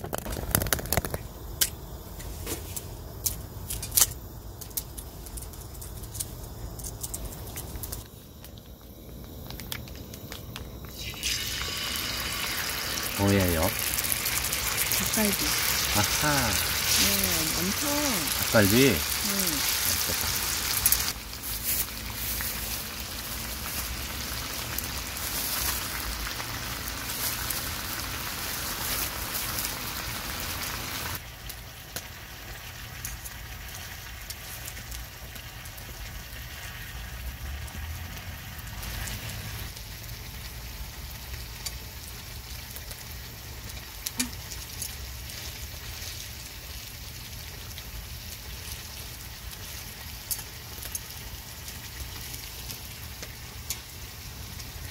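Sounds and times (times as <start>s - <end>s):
food sizzling on a griddle: 0.0s - 54.9s.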